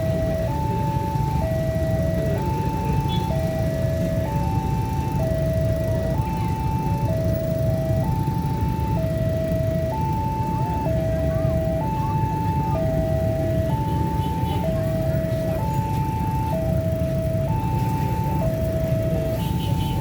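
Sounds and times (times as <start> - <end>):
level crossing two-tone alarm: 0.0 - 20.0
road traffic rumble: 0.0 - 20.0.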